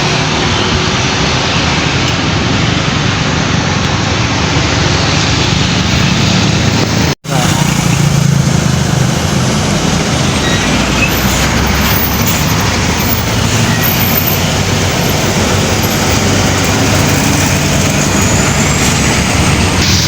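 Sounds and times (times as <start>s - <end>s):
diesel engine hum: 0.0s - 20.0s
tyre and road noise: 0.0s - 20.0s.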